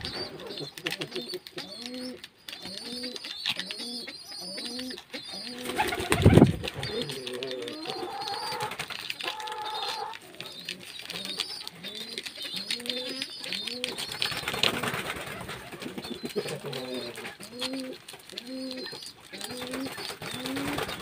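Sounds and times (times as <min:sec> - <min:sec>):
doves cooing: 0:00.0 - 0:21.0
small birds chirping: 0:00.0 - 0:21.0
leaves rustling: 0:03.8 - 0:21.0.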